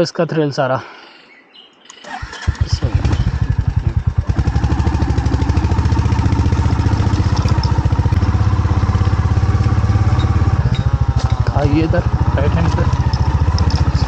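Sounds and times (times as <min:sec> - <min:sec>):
single-cylinder engine thumping: 0:02.2 - 0:14.0.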